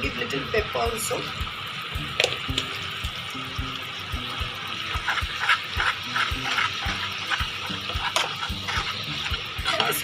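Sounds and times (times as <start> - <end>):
sauce simmering with bubbling pops: 1.2 - 10.0.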